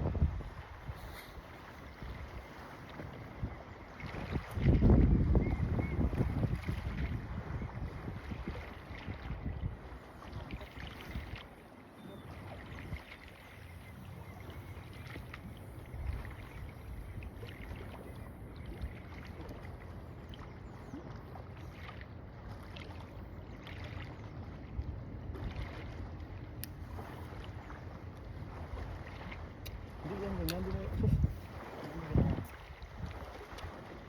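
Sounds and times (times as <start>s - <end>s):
boat motor droning: 0.0s - 34.0s.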